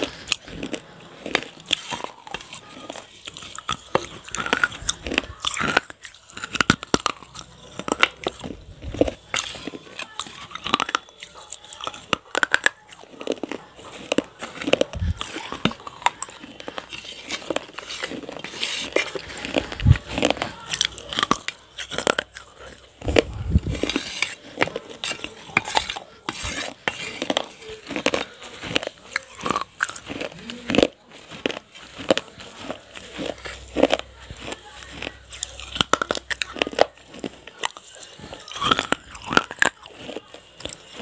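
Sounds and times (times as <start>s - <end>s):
biting and chewing crunches: 0.0s - 41.0s.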